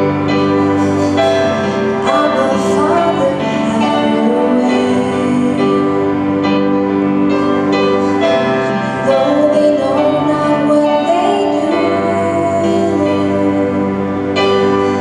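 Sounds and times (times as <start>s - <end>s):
woman singing worship song: 0.0s - 7.0s, 8.0s - 15.0s
sustained instruments: 0.0s - 15.0s.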